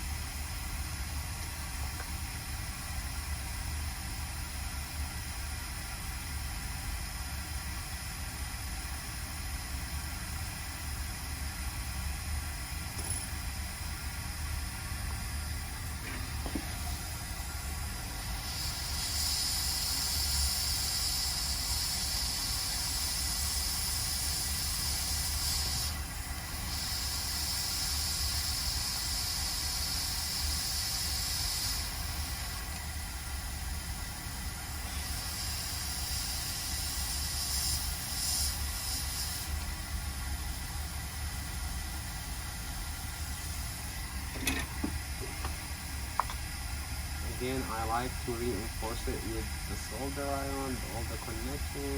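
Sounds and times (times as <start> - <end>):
air hissing: 0.0 - 51.9
steady low hum: 0.0 - 51.9.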